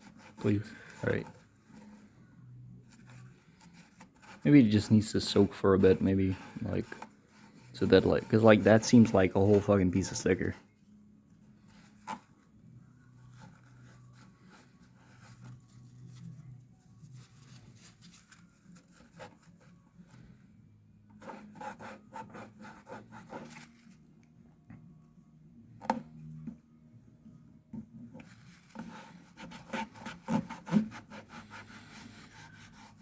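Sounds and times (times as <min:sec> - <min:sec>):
faint rubbing and scraping: 0:00.0 - 0:10.8, 0:11.4 - 0:24.1, 0:27.8 - 0:33.0.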